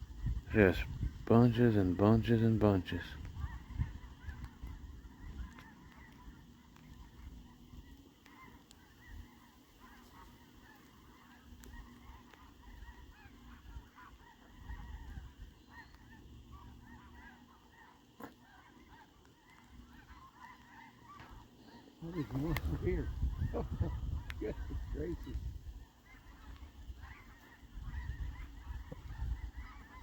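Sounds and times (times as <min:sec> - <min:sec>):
distant geese honking: 0:00.0 - 0:30.0.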